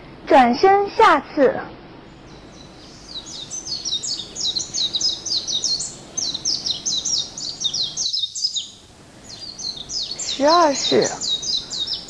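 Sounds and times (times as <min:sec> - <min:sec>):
songbirds chirping: 0:02.0 - 0:12.0.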